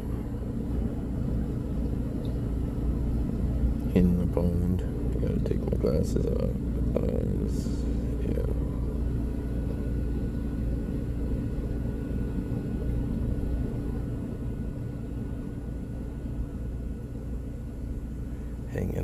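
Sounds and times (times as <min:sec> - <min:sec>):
faint even hum: 0:00.0 - 0:19.0
steady low rumble: 0:00.0 - 0:19.0.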